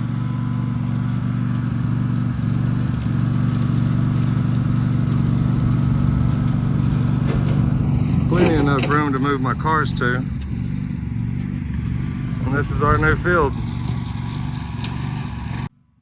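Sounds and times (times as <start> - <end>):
mower engine running: 0.0 - 15.7.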